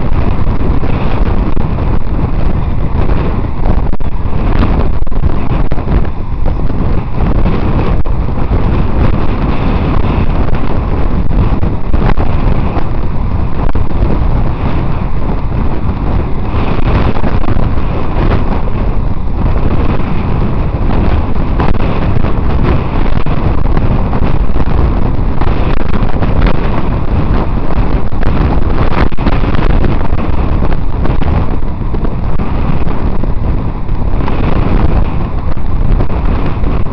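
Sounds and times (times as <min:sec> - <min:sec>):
road noise: 0:00.0 - 0:36.9
wind rush on microphone: 0:00.0 - 0:36.9.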